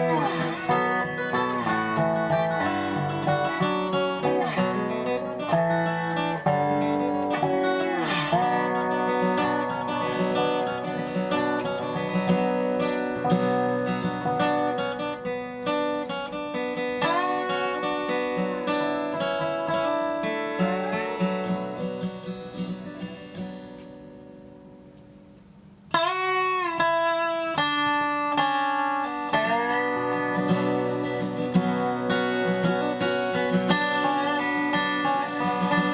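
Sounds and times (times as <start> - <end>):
resonator guitar sliding notes: 0.0 - 24.2, 26.0 - 35.9
strummed guitar: 0.0 - 35.9.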